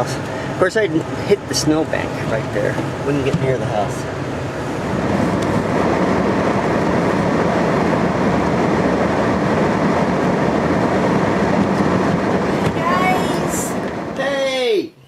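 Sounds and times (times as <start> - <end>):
snowblower engine running: 0.0 - 14.3.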